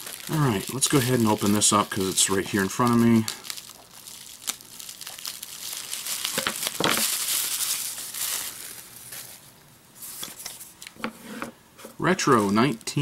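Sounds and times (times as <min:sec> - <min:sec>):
bubble wrap rustling: 0:00.0 - 0:11.0, 0:12.0 - 0:13.0.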